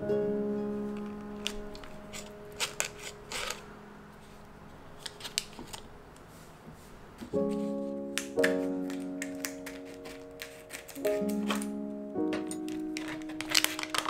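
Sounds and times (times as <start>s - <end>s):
soft instrumental music: 0.0s - 5.3s, 6.3s - 14.0s.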